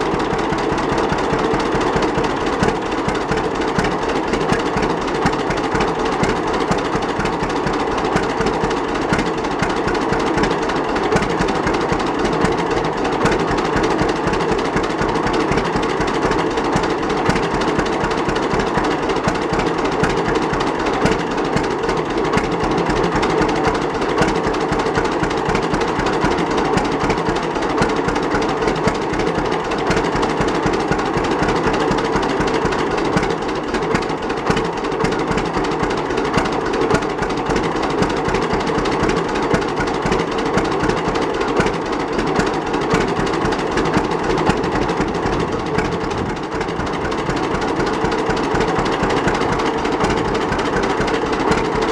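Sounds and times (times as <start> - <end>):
tractor engine putt-putt beat: 0.0 - 51.9.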